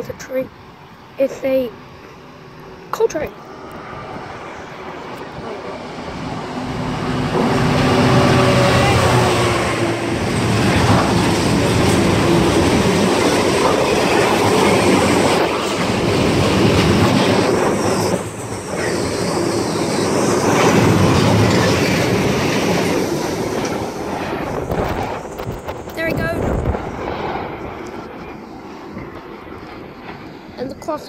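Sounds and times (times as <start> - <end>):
locomotive engine drone: 0.0 - 31.0
train wheels rumbling on track: 0.0 - 31.0.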